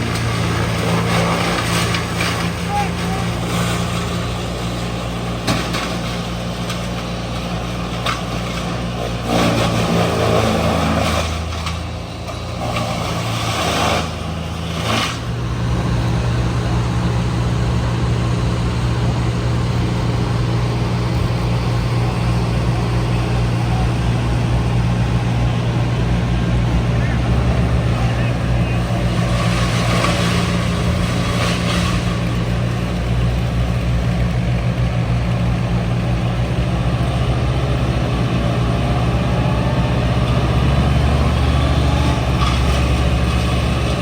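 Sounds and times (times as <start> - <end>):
heavy machine engine drone: 0.0 - 44.0.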